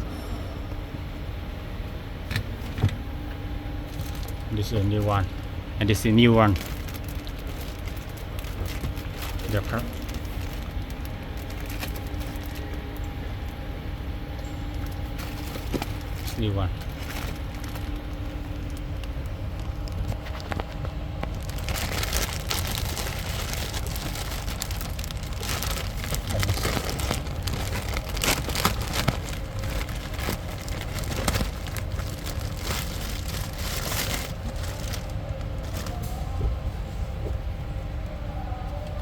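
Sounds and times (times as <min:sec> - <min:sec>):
low rumble: 0:00.0 - 0:02.3, 0:02.9 - 0:39.0
plastic packaging crinkling: 0:03.9 - 0:13.6, 0:14.6 - 0:36.3.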